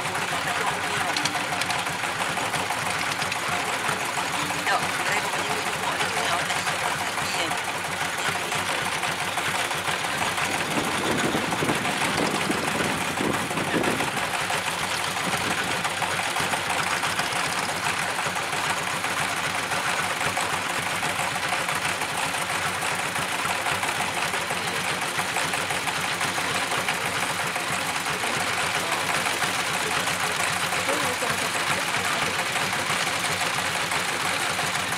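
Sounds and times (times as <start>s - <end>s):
walking tractor engine chugging: 0.0s - 34.9s.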